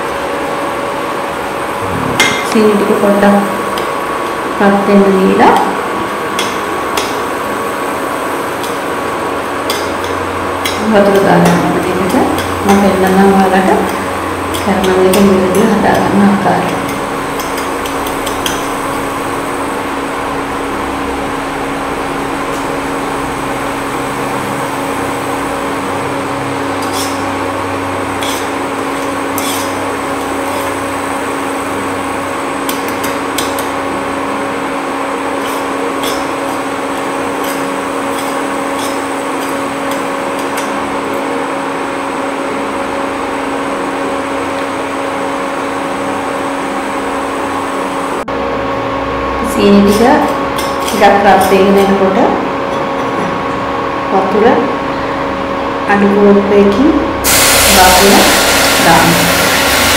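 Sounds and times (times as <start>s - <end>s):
cooktop hum and fan: 0.0s - 59.9s.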